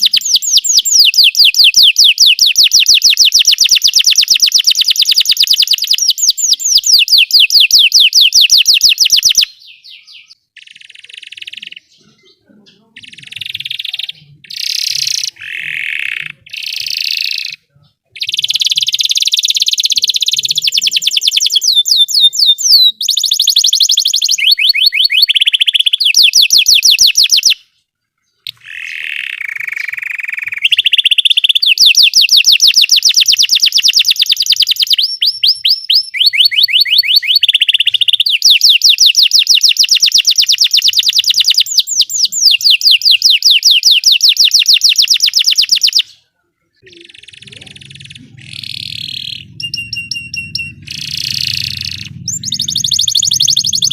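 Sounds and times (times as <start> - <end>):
canary singing trills: 0.0 - 27.7, 28.3 - 46.2, 46.8 - 53.9.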